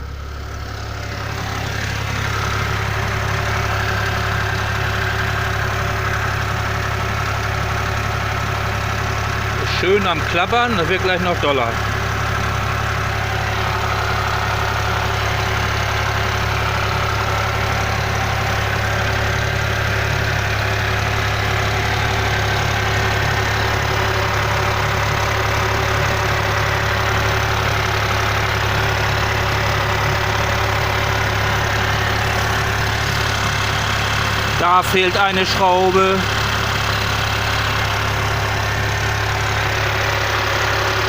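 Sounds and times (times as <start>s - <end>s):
car engine idling: 0.0s - 41.0s
engine clattering: 0.0s - 41.0s.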